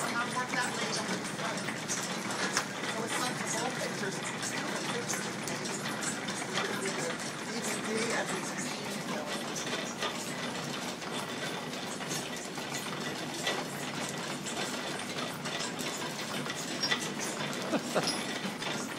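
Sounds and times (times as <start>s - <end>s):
line shafting mechanical clatter: 0.0s - 18.9s
irregular clicks and ticks: 0.1s - 18.9s.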